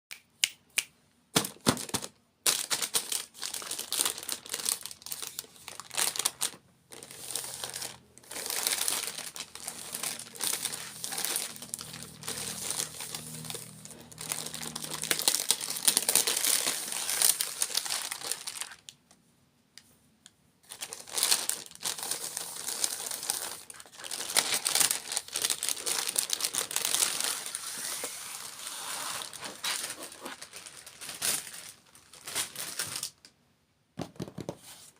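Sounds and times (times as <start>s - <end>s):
snack packaging crinkling: 1.7s - 19.0s, 20.7s - 33.2s.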